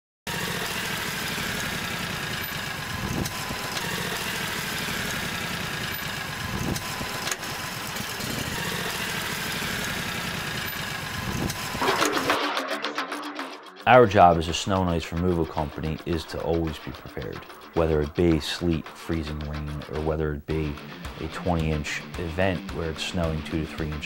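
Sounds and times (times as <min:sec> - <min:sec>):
vehicle engine running: 0:00.3 - 0:12.4, 0:14.0 - 0:24.0.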